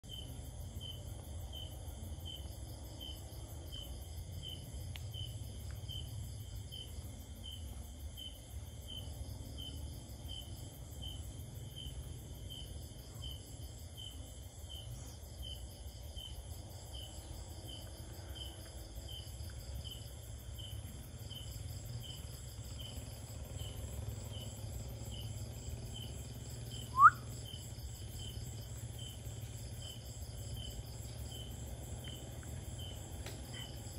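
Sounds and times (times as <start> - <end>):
insect chirping: 0.0 - 33.9
high insect trilling chorus: 0.1 - 33.9.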